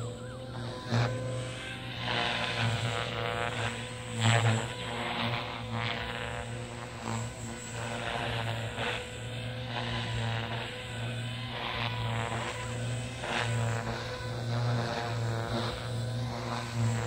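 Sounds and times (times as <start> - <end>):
model helicopter motor and rotor hum: 0.0 - 17.0.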